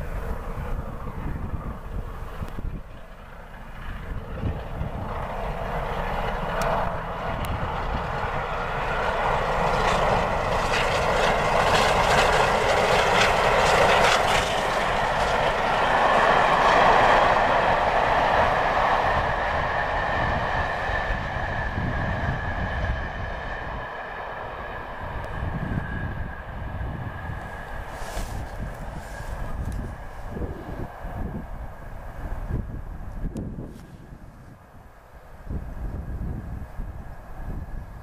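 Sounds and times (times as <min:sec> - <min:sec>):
steam locomotive passing: 0:00.0 - 0:38.0.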